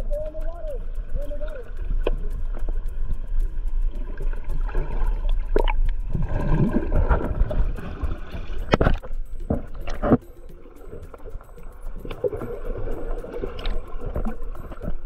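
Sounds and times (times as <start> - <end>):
underwater bubbling: 0.0 - 15.0
underwater low rumble: 0.0 - 15.0.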